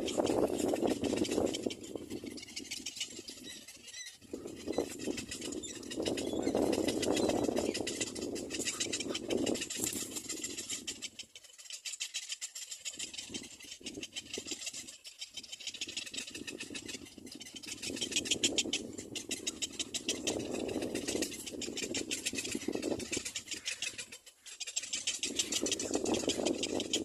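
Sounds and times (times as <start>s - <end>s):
chicks rattling chatter: 0.0s - 27.0s.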